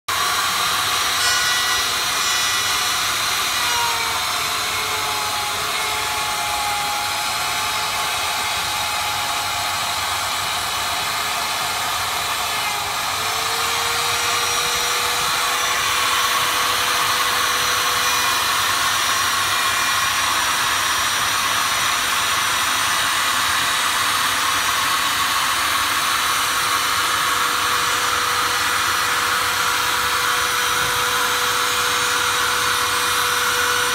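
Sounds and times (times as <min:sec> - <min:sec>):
power tool motor: 0:00.1 - 0:33.9.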